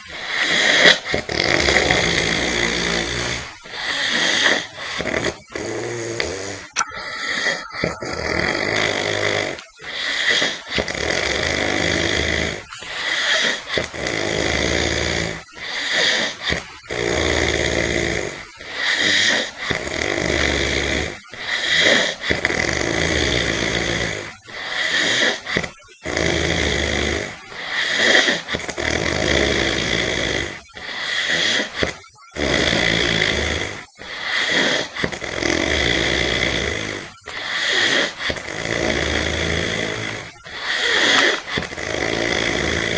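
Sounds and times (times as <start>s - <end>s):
heavy snoring: 0.0s - 42.9s.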